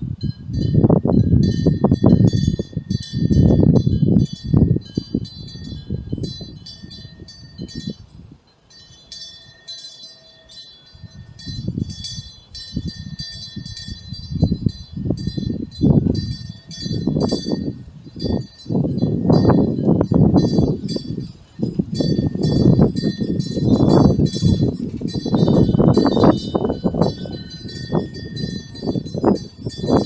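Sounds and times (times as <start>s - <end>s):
wind rumbling on microphone: 0.0s - 9.5s, 10.9s - 30.0s
metal wind bell tinkling: 0.0s - 30.0s.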